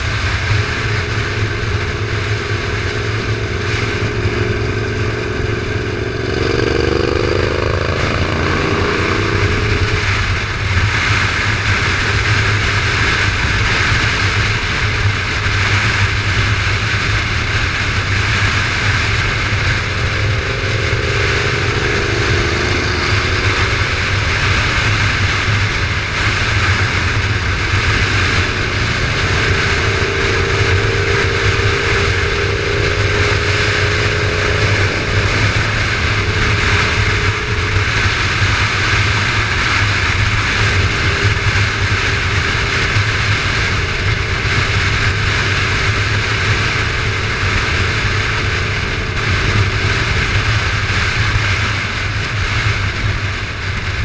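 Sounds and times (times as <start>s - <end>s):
motorcycle engine drone: 0.0s - 54.0s
wind noise: 0.0s - 54.0s.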